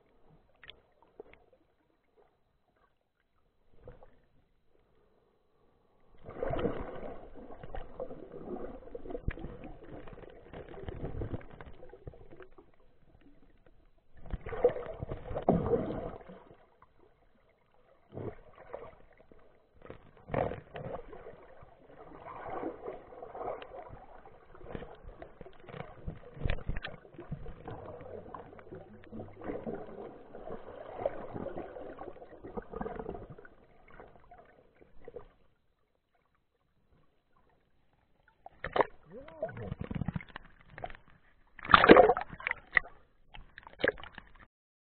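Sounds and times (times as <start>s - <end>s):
muffled underwater sloshing and bubbling: 0.0s - 44.5s.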